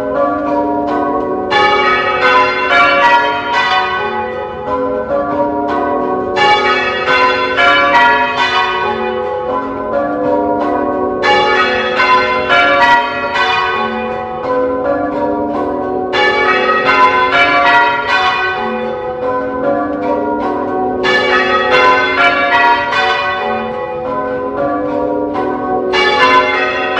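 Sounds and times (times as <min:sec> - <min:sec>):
church bells change ringing: 0:00.0 - 0:26.9.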